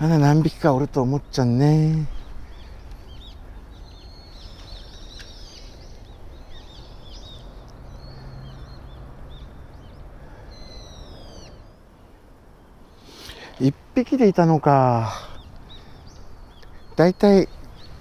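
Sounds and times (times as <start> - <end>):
outdoor background noise: 0.0 - 18.0
small birds chirping: 0.0 - 18.0.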